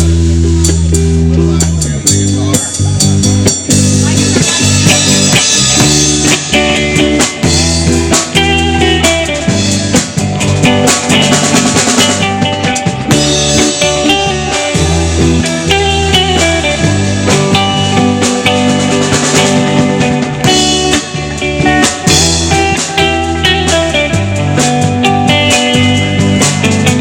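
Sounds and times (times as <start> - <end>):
bass line: 0.0 - 27.0
drum kit: 0.0 - 27.0
guitar: 0.0 - 27.0.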